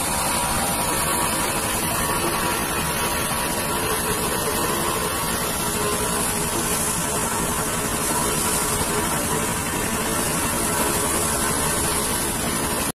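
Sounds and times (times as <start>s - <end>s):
boat diesel engines droning: 0.0s - 12.9s.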